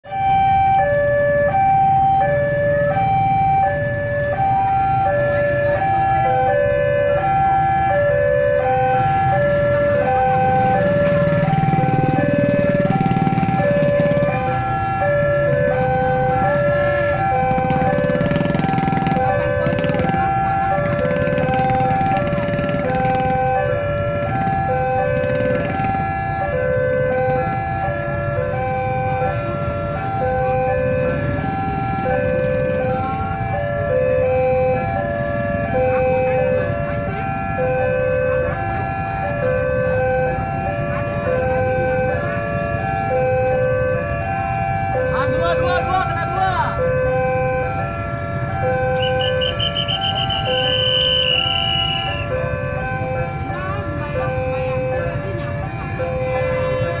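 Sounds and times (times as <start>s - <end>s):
level crossing two-tone alarm: 0.0s - 57.0s
vehicle engines rumbling: 0.0s - 57.0s.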